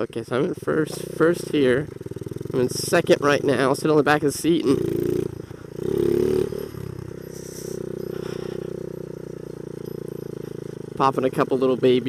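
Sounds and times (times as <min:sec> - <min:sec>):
mini bike engine revving: 0:00.4 - 0:12.0.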